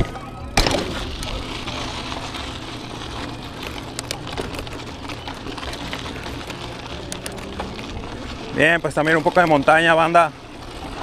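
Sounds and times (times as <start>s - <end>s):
bike clicks and rattles: 0.0s - 11.0s
bike tyres rolling on dirt: 0.0s - 11.0s.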